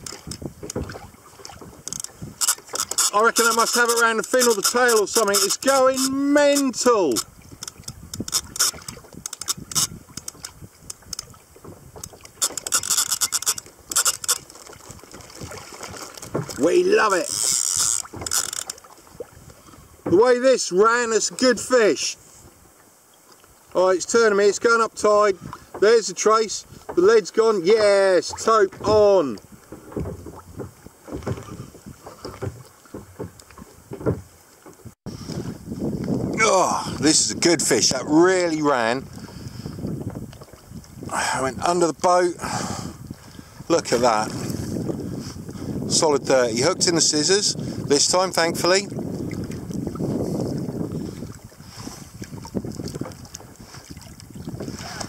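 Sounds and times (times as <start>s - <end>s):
wind on microphone: 0.0s - 20.2s, 25.3s - 27.0s, 27.8s - 55.0s
knocks and scrapes on kayak: 0.0s - 21.6s, 24.1s - 42.2s, 43.3s - 55.0s
water splashing: 0.0s - 35.0s, 35.9s - 55.0s.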